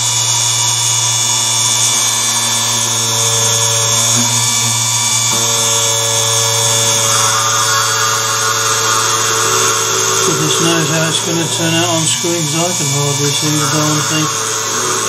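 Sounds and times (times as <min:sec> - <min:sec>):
drill motor whining: 0:00.0 - 0:15.0.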